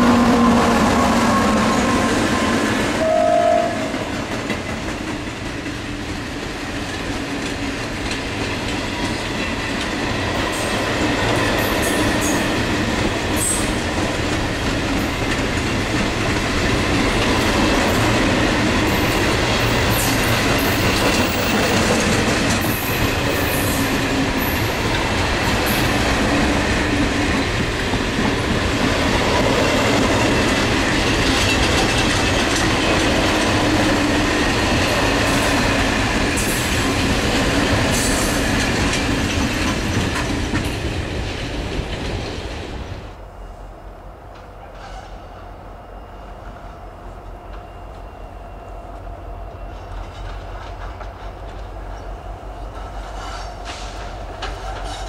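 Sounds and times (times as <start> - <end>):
train wagons rolling past: 0.0 - 55.0.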